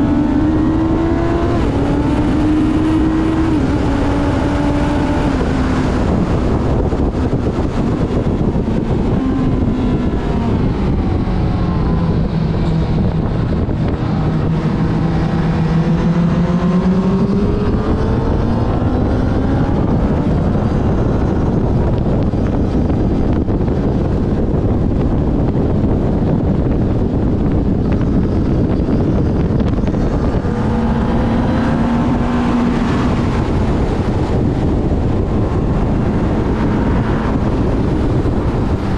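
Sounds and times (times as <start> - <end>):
motorcycle engine racing: 0.0 - 38.9
wind rush on microphone: 0.0 - 38.9.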